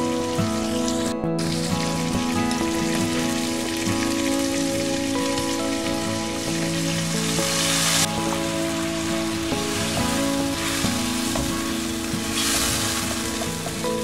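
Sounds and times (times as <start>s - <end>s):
chicken frying in hot oil: 0.0s - 14.0s.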